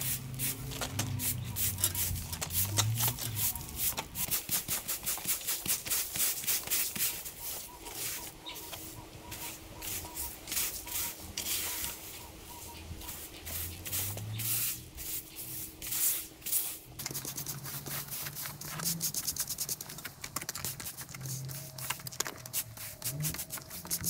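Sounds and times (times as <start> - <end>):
stiff brush scrubbing slabs: 0.0 - 24.0.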